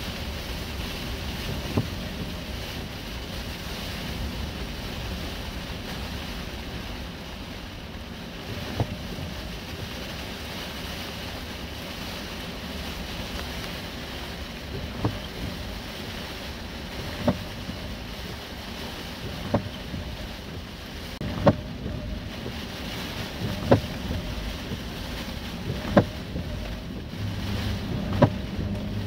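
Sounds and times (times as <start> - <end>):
rain and wind beating on car: 0.0 - 29.0
tyre noise on wet road: 0.0 - 29.0.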